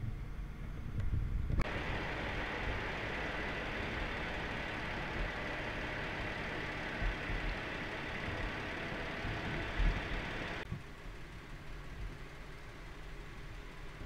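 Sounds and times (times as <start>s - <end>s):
faint high whine: 0.0s - 11.8s
engine hum and hiss: 0.0s - 14.0s.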